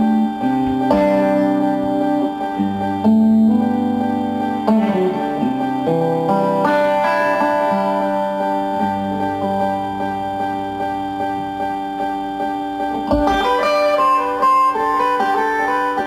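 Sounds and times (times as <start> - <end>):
plucked string instrument music: 0.0 - 16.0.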